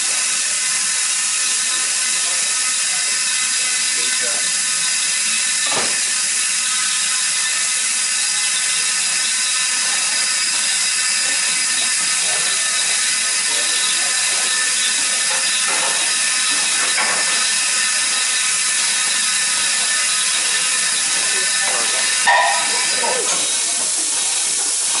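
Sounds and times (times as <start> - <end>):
steam hissing from safety valves: 0.0 - 25.0.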